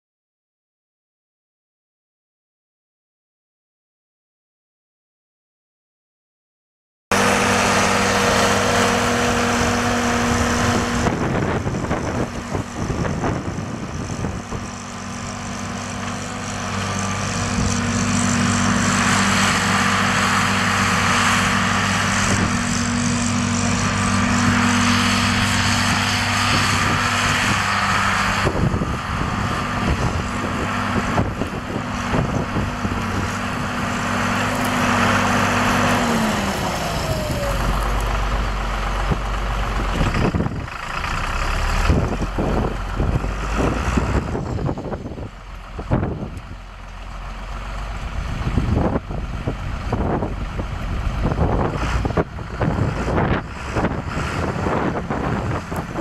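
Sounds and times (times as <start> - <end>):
tractor diesel engine running: 7.1 - 56.0.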